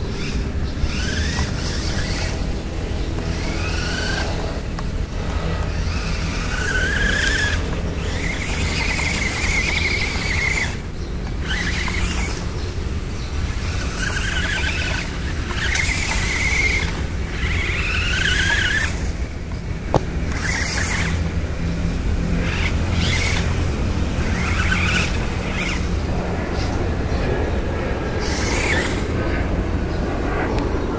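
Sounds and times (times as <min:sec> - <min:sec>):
steady low rumble: 0:00.0 - 0:14.2, 0:14.8 - 0:30.9
toy car electric motor whining: 0:00.0 - 0:29.6.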